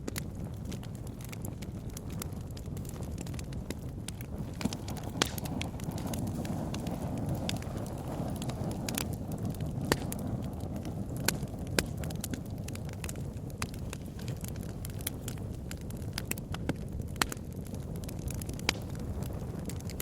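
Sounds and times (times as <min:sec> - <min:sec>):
bonfire flames rushing: 0:00.0 - 0:20.0
fire crackling and popping: 0:00.0 - 0:20.0.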